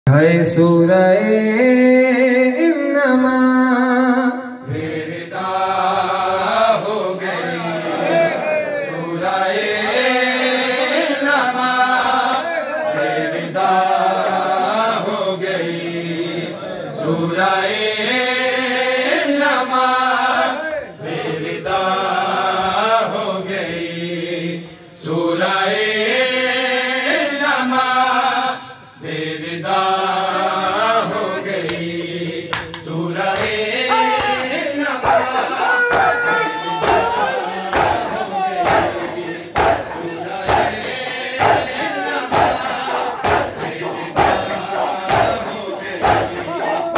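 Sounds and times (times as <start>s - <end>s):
men chanting a lament: 0.1s - 46.9s.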